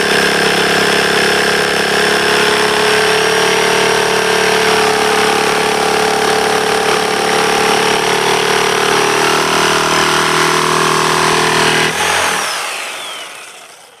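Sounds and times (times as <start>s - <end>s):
power saw whining: 0.0s - 14.0s.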